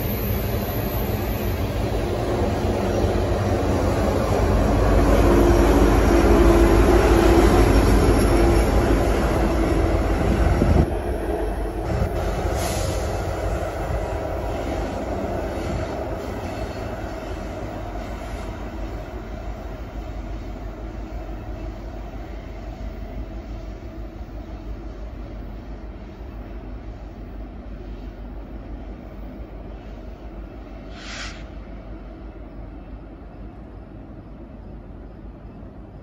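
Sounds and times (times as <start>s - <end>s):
freight train passing: 0.0s - 36.0s.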